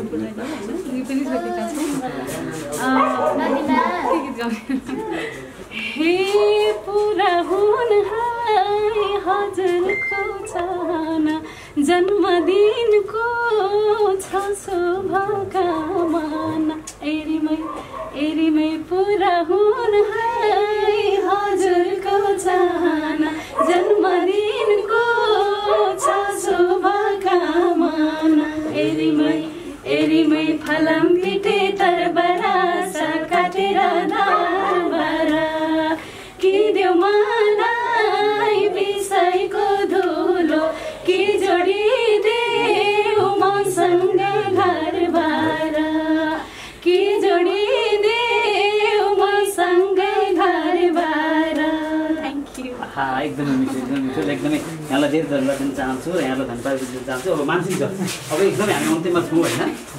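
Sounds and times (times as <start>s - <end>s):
singing voices: 0.0s - 59.9s
woman singing: 5.8s - 54.4s.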